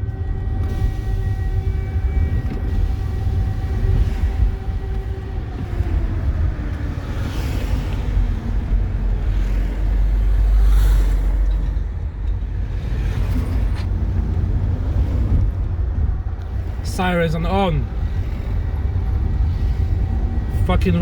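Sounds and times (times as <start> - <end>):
air raid siren wailing: 0.0 - 21.0
heavy low rumble: 0.0 - 21.0.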